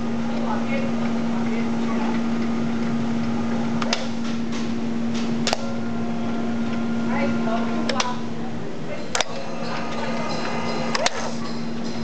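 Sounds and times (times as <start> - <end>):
electrical hum of machinery: 0.0 - 12.0.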